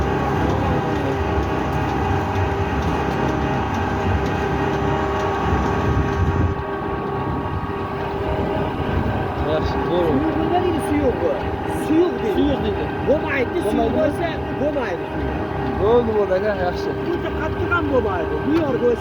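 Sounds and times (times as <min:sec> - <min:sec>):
brick-making machine running: 0:00.0 - 0:19.0.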